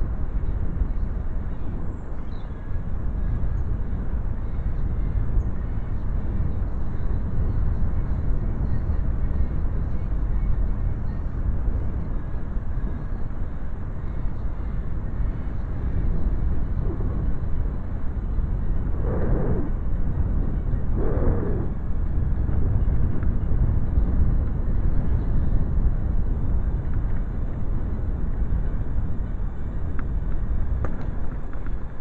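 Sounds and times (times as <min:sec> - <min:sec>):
wind on microphone: 0:00.0 - 0:32.0.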